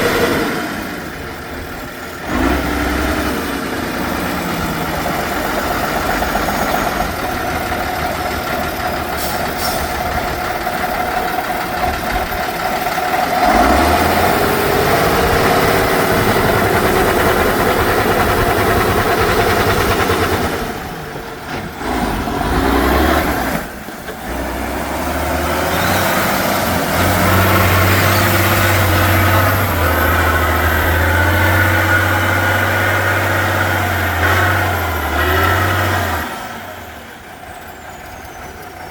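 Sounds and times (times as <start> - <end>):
diesel truck engines revving: 0.0 - 38.9.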